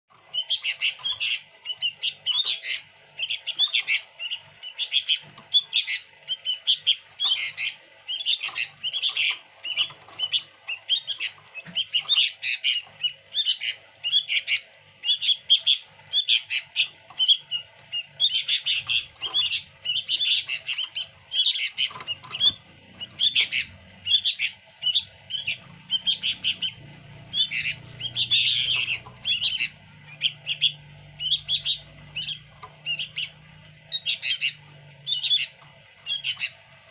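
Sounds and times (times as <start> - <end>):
bulbul singing: 0.1 - 36.9.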